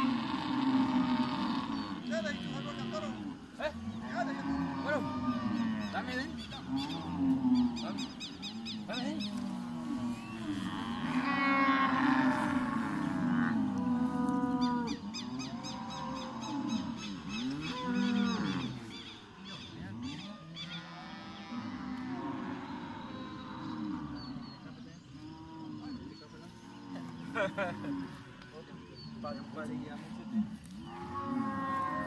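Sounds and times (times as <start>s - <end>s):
bull bellowing: 0.0s - 24.6s, 29.0s - 32.0s.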